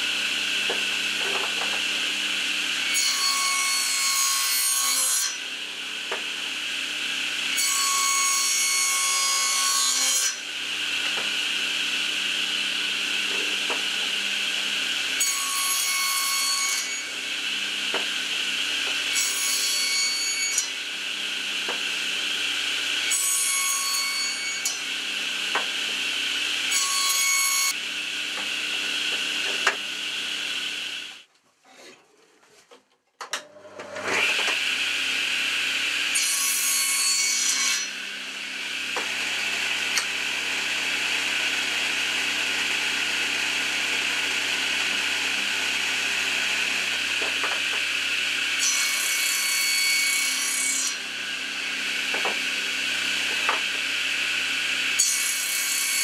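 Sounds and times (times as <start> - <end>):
table saw whining: 0.0 - 31.3, 33.4 - 56.0.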